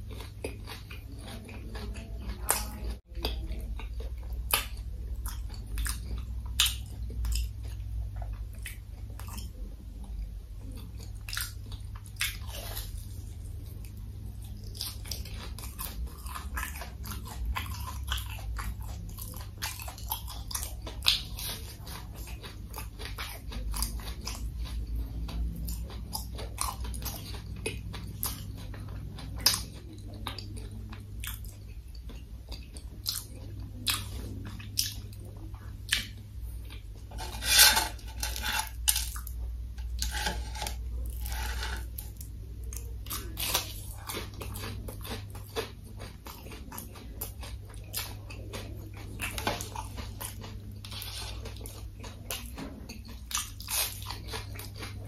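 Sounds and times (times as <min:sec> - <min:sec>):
person chewing crispy food: 0:00.0 - 0:55.0
steady low hum: 0:00.0 - 0:55.0.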